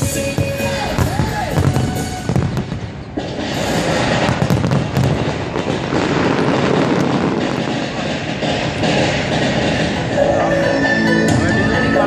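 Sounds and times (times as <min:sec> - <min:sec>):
fireworks crackling and popping: 0:00.0 - 0:10.5.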